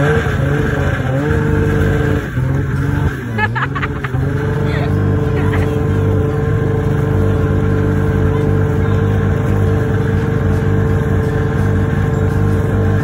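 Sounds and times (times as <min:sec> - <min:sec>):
snowmobile engine droning: 0:00.0 - 0:13.0.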